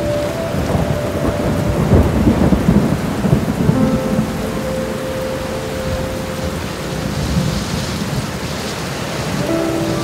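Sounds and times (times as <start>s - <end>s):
heavy rain: 0.0s - 10.0s
thunder rumbling and crackling: 0.0s - 10.0s.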